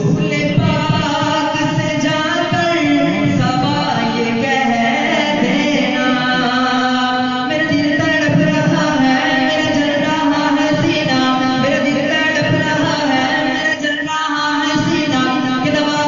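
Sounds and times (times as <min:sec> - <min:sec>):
man singing devotional song: 0:00.0 - 0:16.0.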